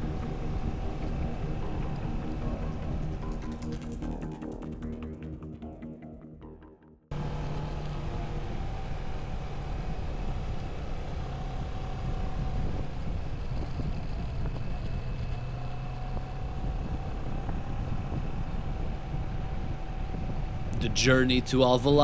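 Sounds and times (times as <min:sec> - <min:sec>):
wind rushing over microphone: 0:00.0 - 0:04.2, 0:08.0 - 0:22.0
motorcycle engine hum: 0:00.0 - 0:05.8, 0:07.1 - 0:22.0.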